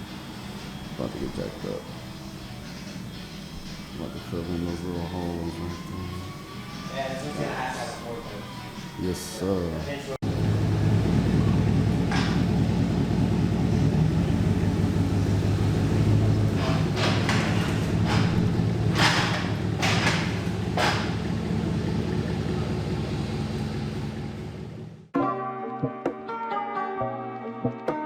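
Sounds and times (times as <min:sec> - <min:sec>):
motor rumbling: 0:00.0 - 0:25.1.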